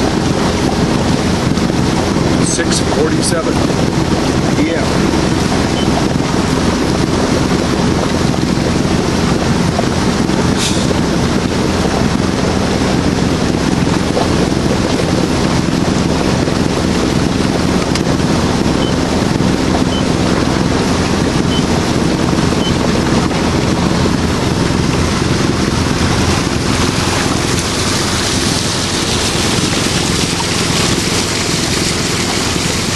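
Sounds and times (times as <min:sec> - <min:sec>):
boat engine hum: 0:00.0 - 0:32.9
water sounds: 0:00.0 - 0:32.9
wind buffeting microphone: 0:00.0 - 0:32.9.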